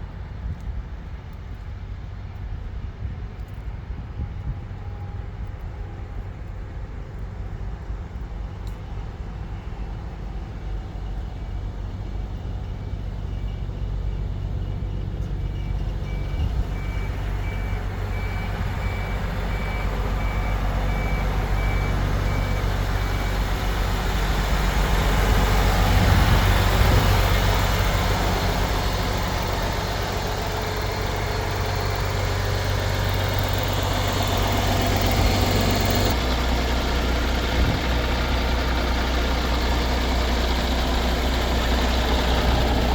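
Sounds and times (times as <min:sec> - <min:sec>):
diesel truck engine running: 0:07.9 - 0:42.9.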